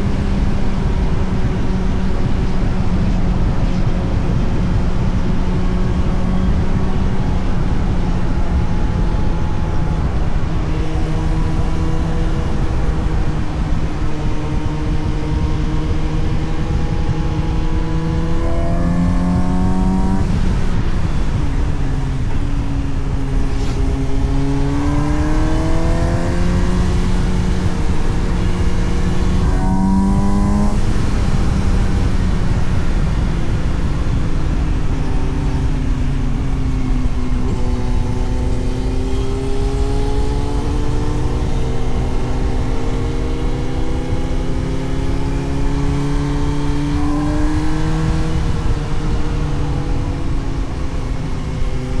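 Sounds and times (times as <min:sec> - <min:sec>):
motorcycle engine accelerating: 0:00.0 - 0:52.0
wind and road rush: 0:00.0 - 0:52.0.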